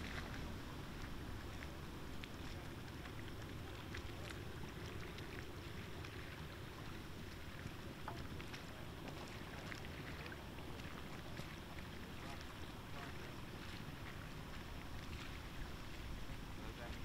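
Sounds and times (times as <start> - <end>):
bridge machinery low rumble: 0.0 - 17.0.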